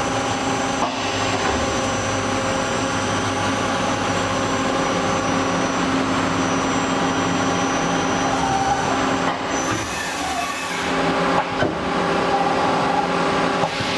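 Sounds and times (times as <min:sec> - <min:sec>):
lathe humming and whining: 0:00.0 - 0:13.9.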